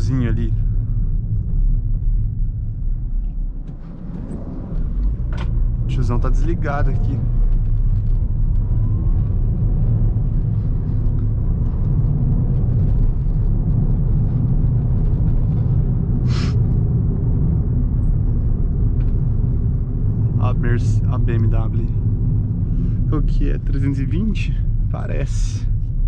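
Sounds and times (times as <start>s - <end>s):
car cabin engine and road rumble: 0.0s - 26.0s.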